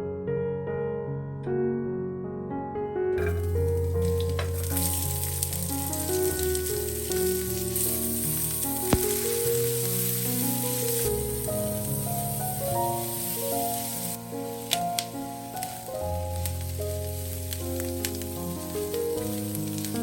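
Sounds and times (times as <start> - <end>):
soft piano music: 0.0 - 20.0
food sizzling in a frying pan: 3.2 - 20.0.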